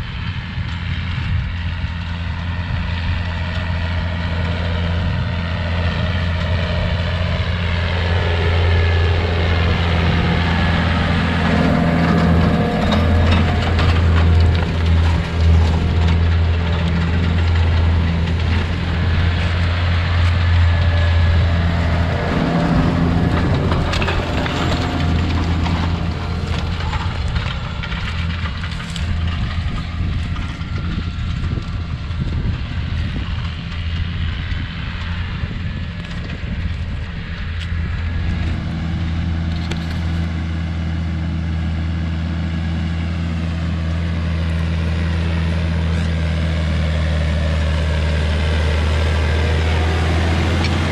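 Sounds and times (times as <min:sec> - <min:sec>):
tractor diesel engine humming: 0:00.0 - 0:50.9.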